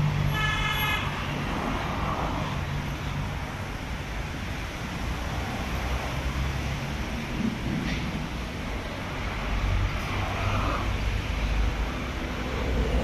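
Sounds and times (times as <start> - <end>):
outdoor traffic noise: 0.0 - 13.0.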